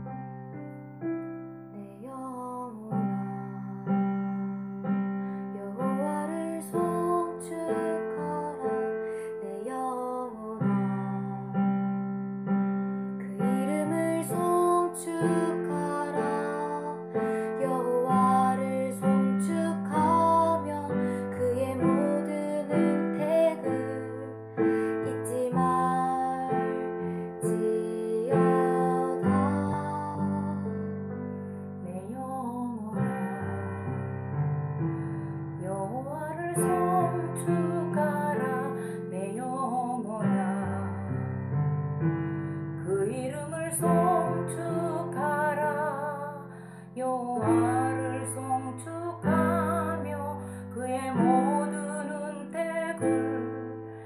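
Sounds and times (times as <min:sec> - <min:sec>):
piano instrumental music: 0:00.0 - 0:54.0.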